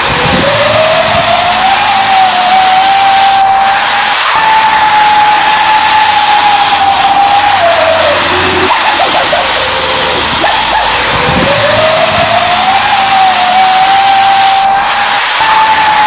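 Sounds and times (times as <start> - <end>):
truck engine and road noise: 0.0 - 16.0
whining tone: 0.0 - 16.0.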